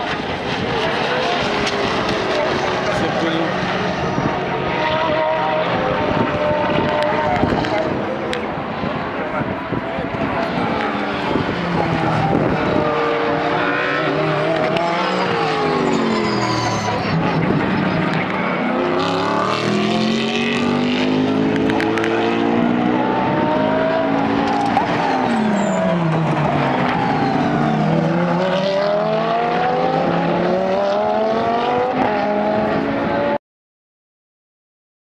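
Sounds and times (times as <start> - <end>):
race car engines accelerating: 0.0 - 33.4.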